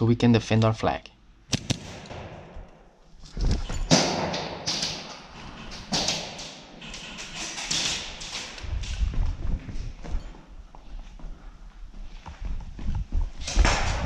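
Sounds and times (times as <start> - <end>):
footsteps: 1.6 - 14.0.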